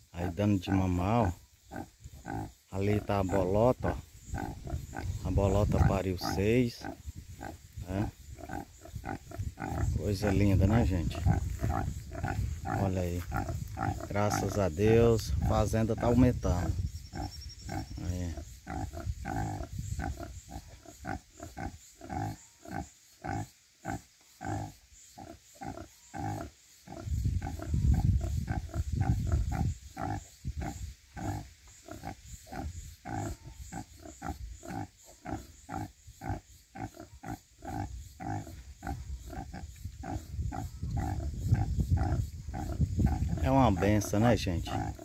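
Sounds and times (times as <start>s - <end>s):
sow grunting: 0.2s - 45.0s.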